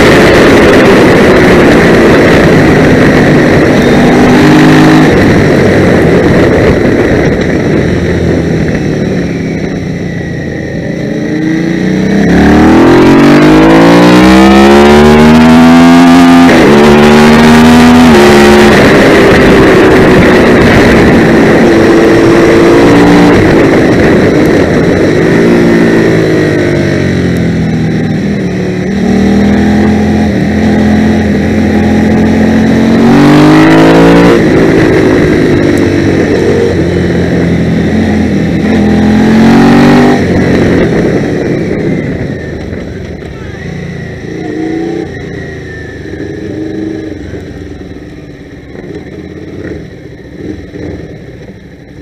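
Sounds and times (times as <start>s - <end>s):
wind rushing: 0.0s - 43.2s
motorcycle engine revving: 0.0s - 52.0s.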